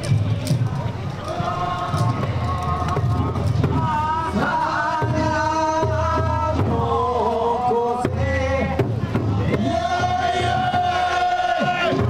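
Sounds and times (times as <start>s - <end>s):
crowd noise: 0.0s - 12.0s
festival music: 0.0s - 12.0s
voices chanting long held notes: 0.0s - 12.0s.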